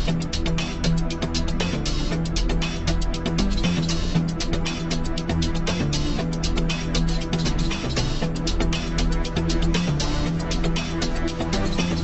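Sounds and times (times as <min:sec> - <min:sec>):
fast percussion hits: 0:00.0 - 0:12.0
held low notes and bass: 0:00.0 - 0:12.0.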